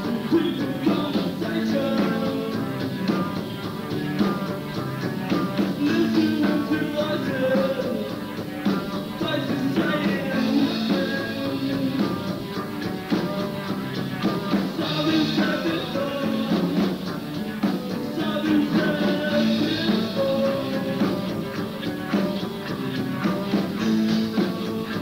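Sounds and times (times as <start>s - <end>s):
drum beat: 0.0s - 25.0s
electric guitar melody: 0.0s - 25.0s
rock band playing live: 0.0s - 25.0s.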